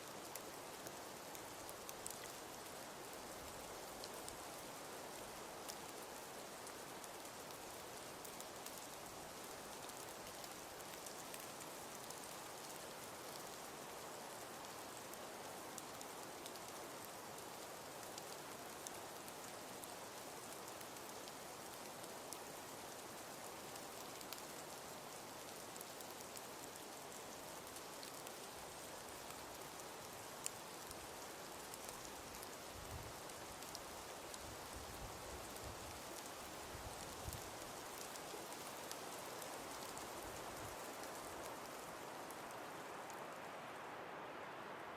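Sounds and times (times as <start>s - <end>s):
wood fire crackling: 0.3s - 43.9s.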